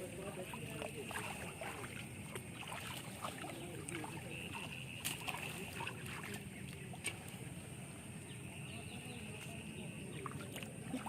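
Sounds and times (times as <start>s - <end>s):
water sloshing and splashing: 0.0s - 8.6s, 9.2s - 11.0s.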